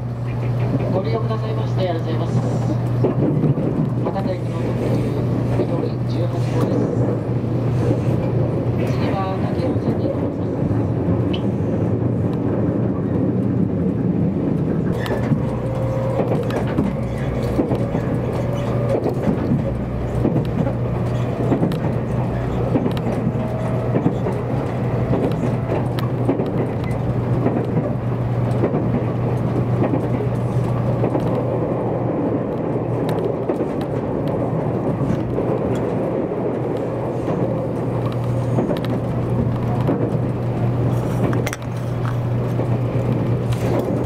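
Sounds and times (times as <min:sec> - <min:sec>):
train cabin hum and rumble: 0:00.0 - 0:44.0.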